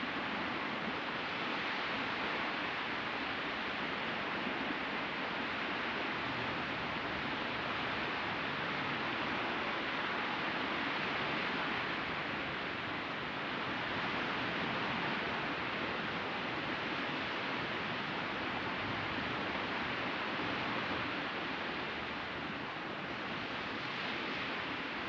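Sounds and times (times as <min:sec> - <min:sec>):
ocean surf: 0:00.0 - 0:25.0.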